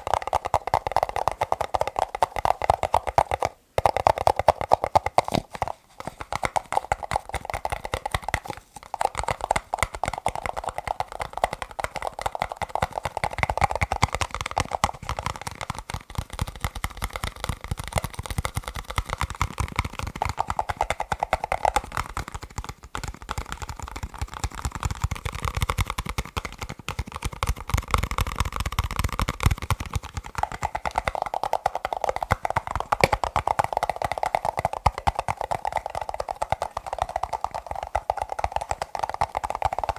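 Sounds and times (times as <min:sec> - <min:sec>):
fingernails tapping plastic cups: 0:00.0 - 0:39.9.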